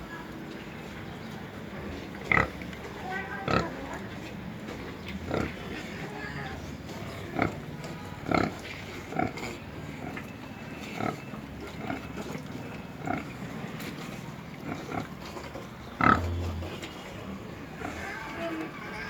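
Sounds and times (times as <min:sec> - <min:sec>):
pigs grunting: 0:02.1 - 0:04.2, 0:04.8 - 0:18.8.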